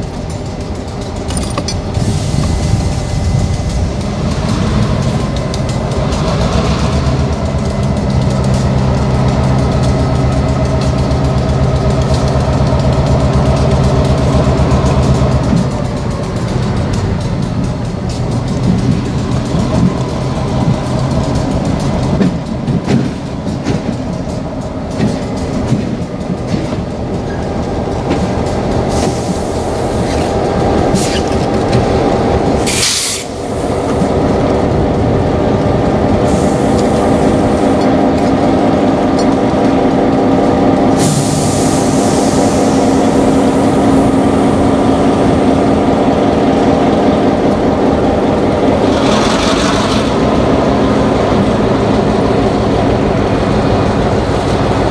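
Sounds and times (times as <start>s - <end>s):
diesel locomotive engine drone: 0.0s - 54.9s.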